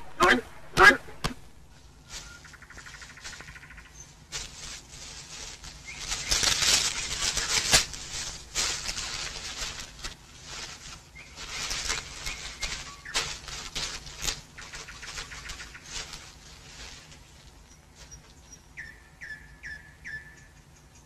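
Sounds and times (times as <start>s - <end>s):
leaves and brush rustling: 0.0s - 19.8s.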